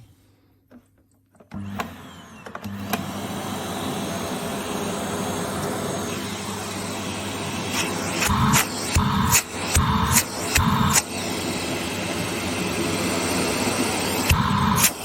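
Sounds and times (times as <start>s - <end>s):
vacuum cleaner running: 1.5s - 15.0s.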